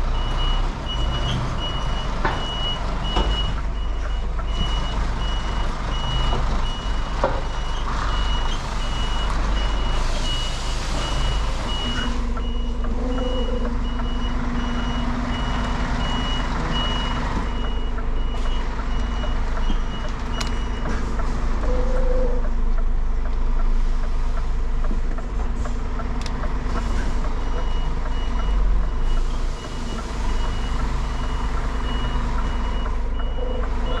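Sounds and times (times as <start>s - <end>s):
diesel engine rumble: 0.0s - 34.0s
reversing alarm beeping: 0.2s - 20.9s, 27.4s - 34.0s.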